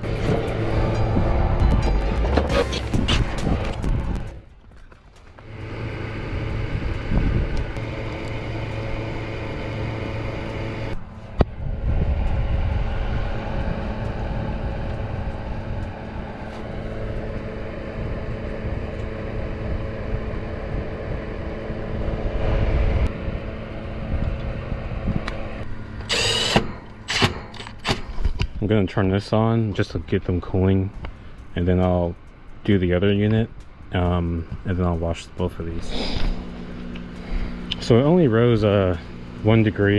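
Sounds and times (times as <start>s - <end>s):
mechanical hum with low rumble: 0.0s - 39.9s.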